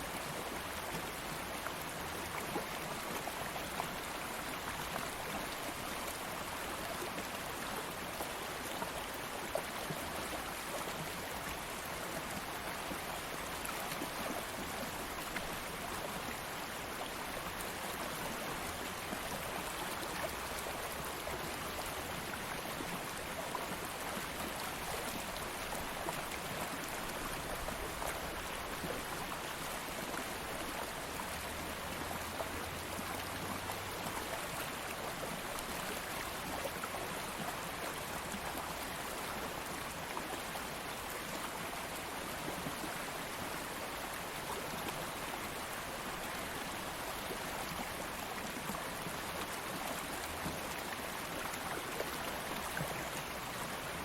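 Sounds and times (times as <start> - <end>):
stream of flowing water: 0.0 - 54.0.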